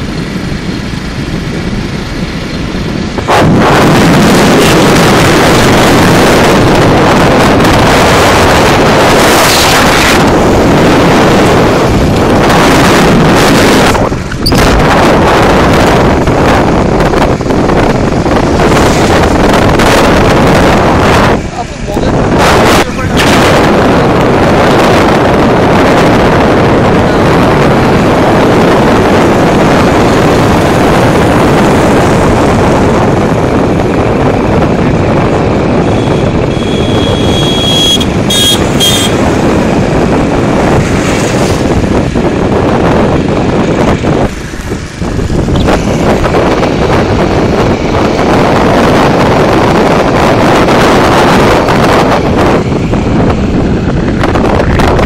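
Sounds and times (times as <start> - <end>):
motorcycle engine and road noise: 0.0 - 55.0
wind rushing over microphone: 0.0 - 55.0.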